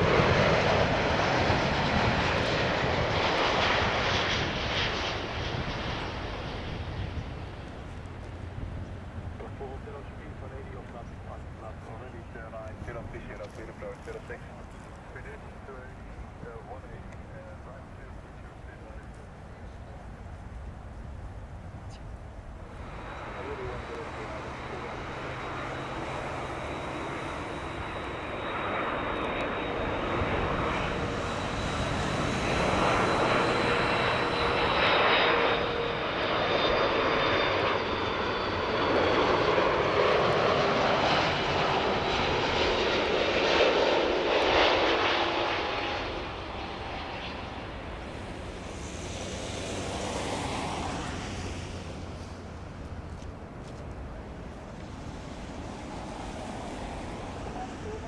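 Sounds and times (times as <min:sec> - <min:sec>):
airliner engine noise passing over: 0:00.0 - 0:58.0.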